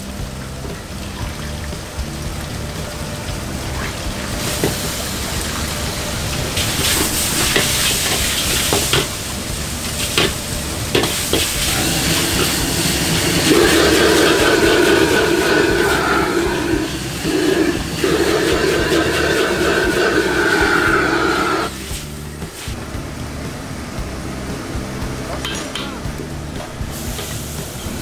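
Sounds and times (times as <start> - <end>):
beef and noodles sizzling in a wok: 0.0 - 22.8, 25.7 - 28.0
gas burner flame roaring: 0.0 - 28.0.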